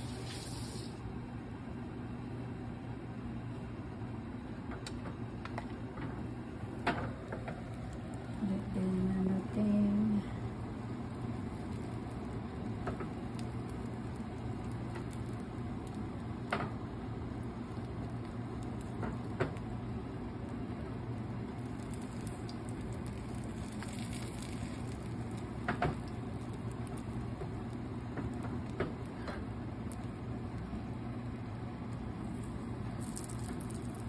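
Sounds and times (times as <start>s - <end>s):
eggs sizzling in a frying pan: 0.0s - 1.1s, 5.9s - 34.0s.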